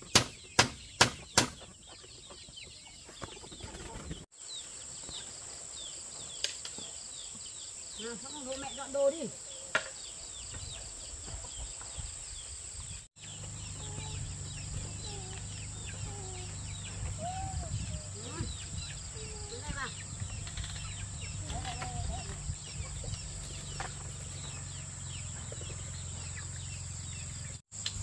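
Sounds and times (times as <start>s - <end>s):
birds cheeping: 0.0s - 28.0s.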